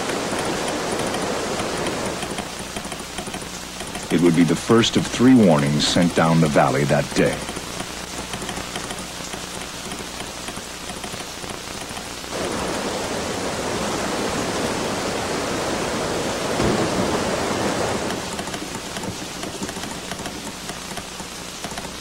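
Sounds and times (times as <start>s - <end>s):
rushing flood water: 0.0s - 11.2s, 12.3s - 22.0s
steady rain: 0.0s - 22.0s.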